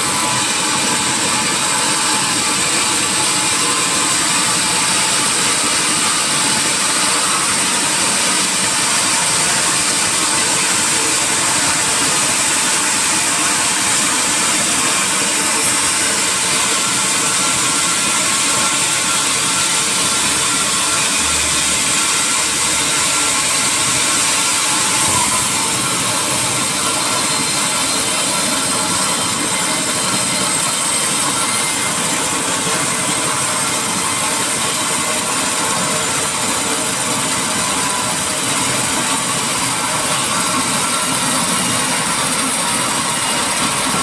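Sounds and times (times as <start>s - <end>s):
sawmill saw running: 0.0s - 44.0s.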